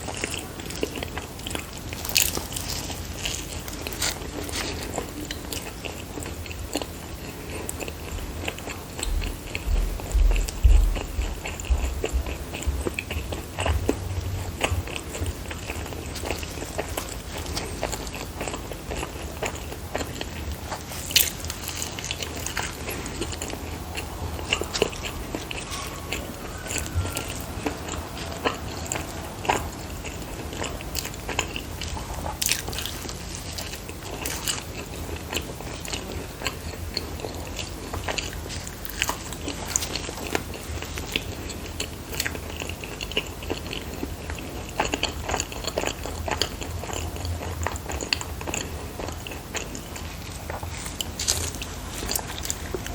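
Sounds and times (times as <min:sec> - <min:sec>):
dumplings being chewed: 0:00.0 - 0:52.9.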